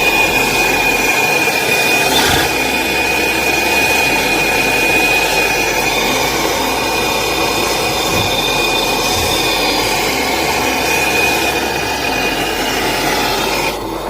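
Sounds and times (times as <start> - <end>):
machine whining: 0.0 - 14.0.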